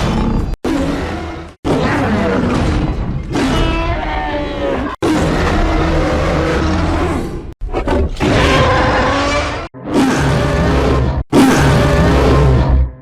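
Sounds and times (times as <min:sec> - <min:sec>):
giant ape roars: 0:00.0 - 0:13.0.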